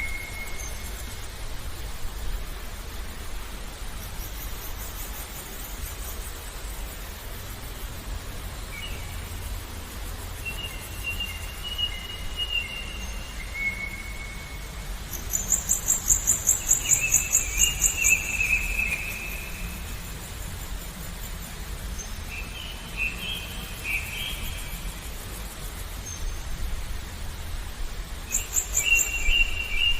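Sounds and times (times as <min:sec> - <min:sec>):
low background rush: 0:00.0 - 0:29.9.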